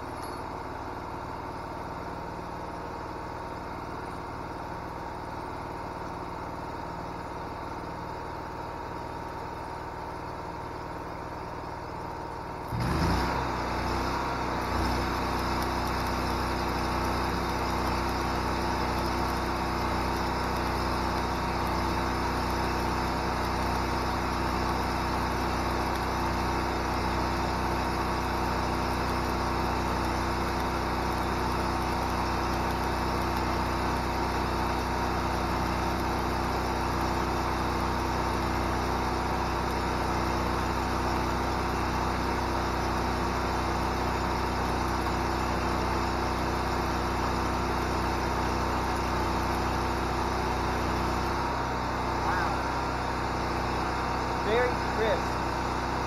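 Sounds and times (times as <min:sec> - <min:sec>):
welder engine running: 0:00.0 - 0:56.0
crackle of welding arc: 0:10.8 - 0:56.0.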